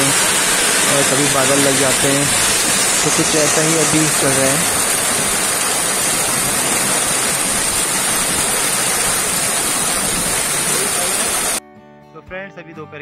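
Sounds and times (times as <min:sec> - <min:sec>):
heavy rain pouring on road: 0:00.0 - 0:11.6.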